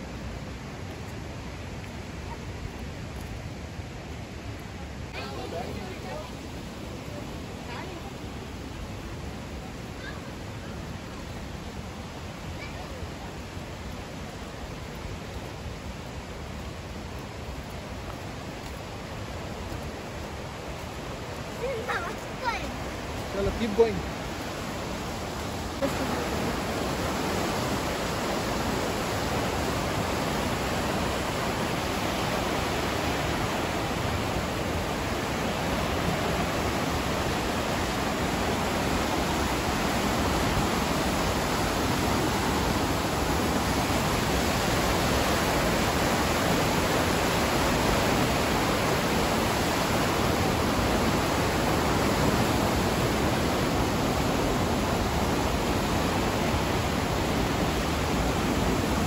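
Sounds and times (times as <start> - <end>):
whitewater rushing through canyon: 0.0 - 59.0.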